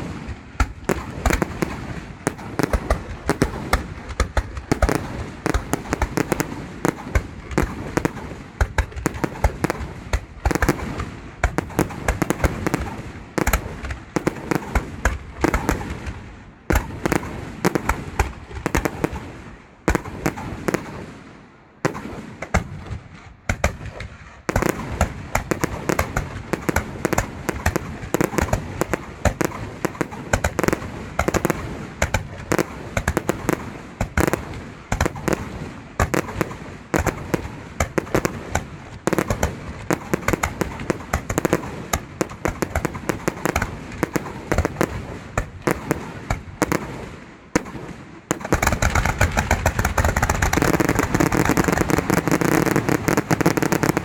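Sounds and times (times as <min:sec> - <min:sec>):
fireworks bangs and bursts: 0:00.0 - 0:54.0.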